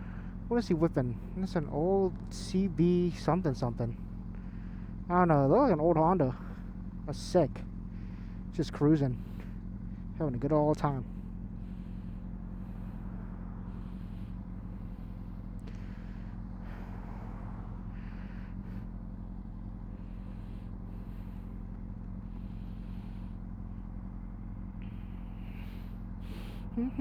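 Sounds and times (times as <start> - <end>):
motorcycle engine cruising: 0.0 - 27.0
road noise: 0.0 - 27.0.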